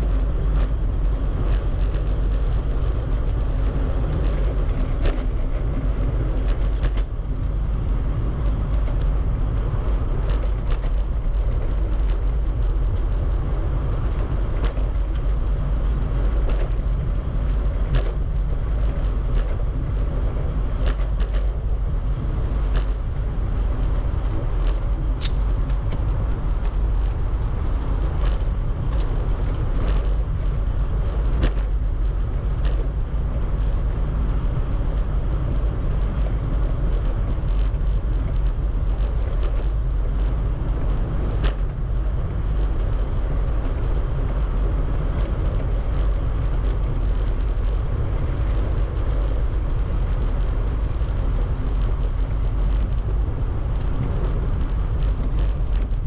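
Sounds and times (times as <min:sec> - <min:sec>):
bicycle tyres rolling: 0:00.0 - 0:56.0
bike clicks and rattles: 0:00.0 - 0:56.0
wind buffeting microphone: 0:00.0 - 0:56.0.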